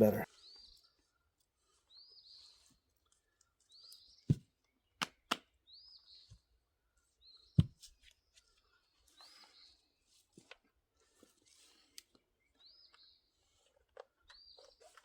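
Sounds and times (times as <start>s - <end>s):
bird chirping: 0.0s - 10.1s, 11.8s - 15.0s.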